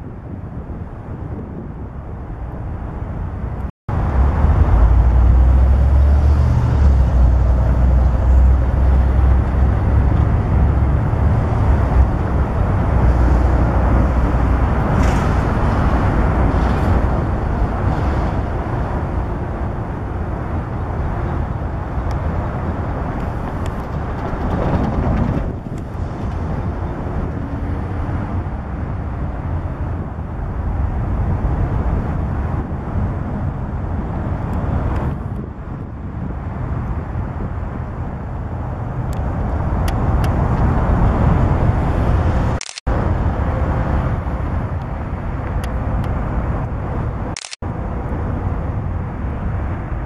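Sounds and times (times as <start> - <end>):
diesel locomotive engine drone: 0.0 - 50.0
wheels rumbling on rail: 0.0 - 50.0.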